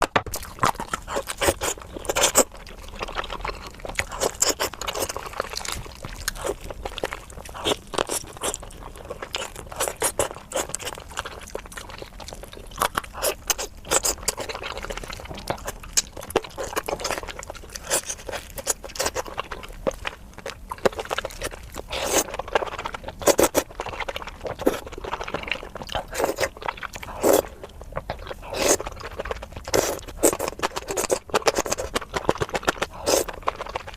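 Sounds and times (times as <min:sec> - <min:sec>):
chewing crispy food crunches: 0:00.0 - 0:33.9.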